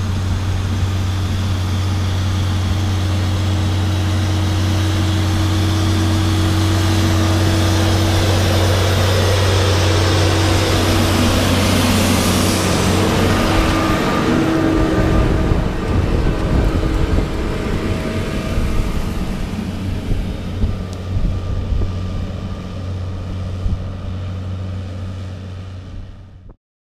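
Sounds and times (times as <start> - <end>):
tractor diesel engine running: 0.0 - 26.5.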